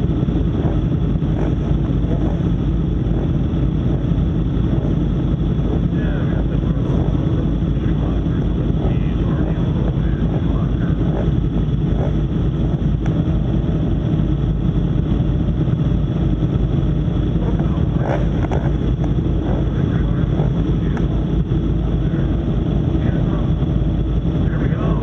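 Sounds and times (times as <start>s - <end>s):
motorcycle engine running: 0.0s - 25.0s
wind noise on microphone: 0.0s - 25.0s.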